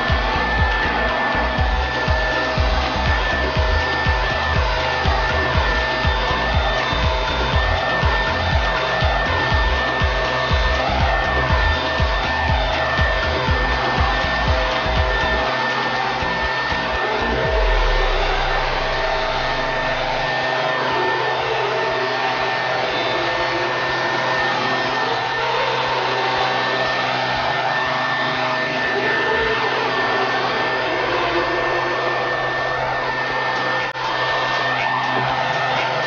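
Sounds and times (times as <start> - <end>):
leaf blower running: 0.0 - 36.0.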